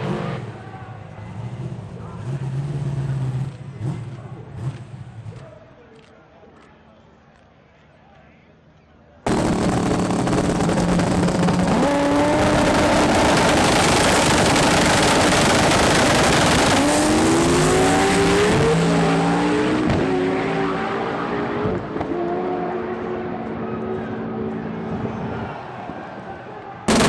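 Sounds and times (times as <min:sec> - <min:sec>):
race car engines revving: 0:00.0 - 0:05.4, 0:09.3 - 0:27.0.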